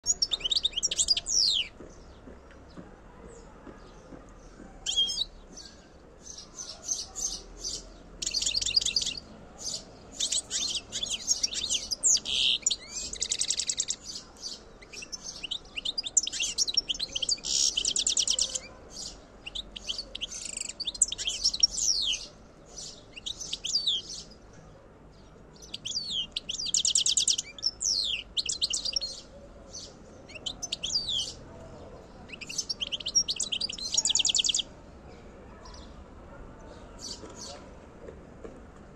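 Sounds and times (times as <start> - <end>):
finch singing: 0.0 - 2.4, 3.8 - 24.4, 25.6 - 34.7.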